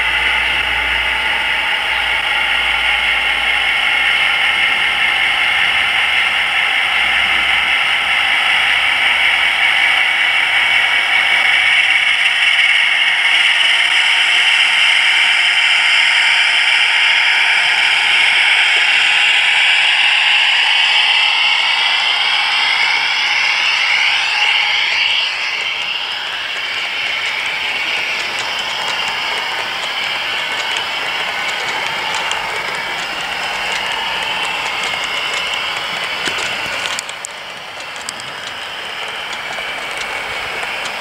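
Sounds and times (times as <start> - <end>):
model coaches rolling on track: 0.0 - 41.0
model locomotive diesel engine sound: 0.0 - 41.0.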